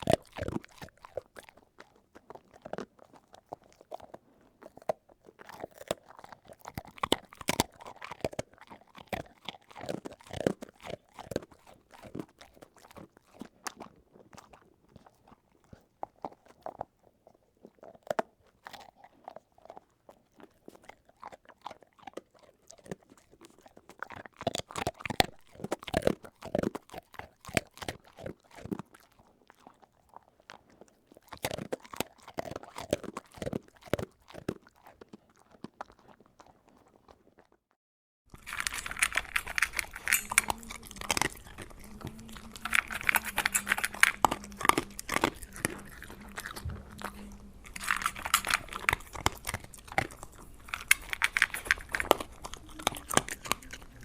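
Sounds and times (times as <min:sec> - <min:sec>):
crunchy food being chewed: 0:00.0 - 0:54.0.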